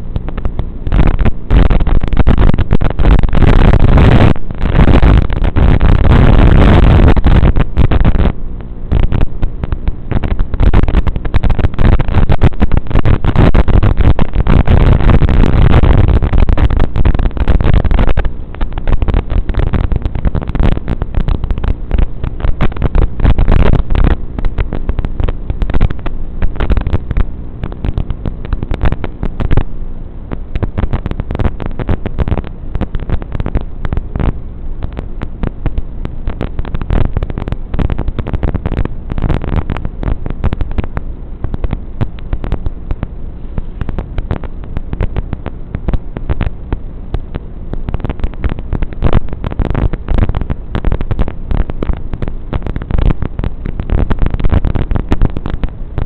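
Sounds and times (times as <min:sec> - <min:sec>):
dense crackling noise: 0:00.0 - 0:56.0
low hum: 0:00.0 - 0:56.0.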